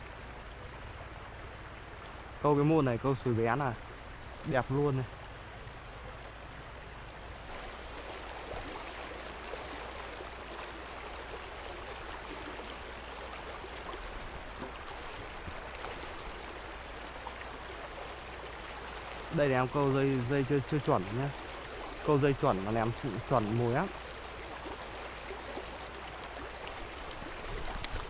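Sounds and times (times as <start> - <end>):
stream rushing over rocks: 0.0 - 28.0.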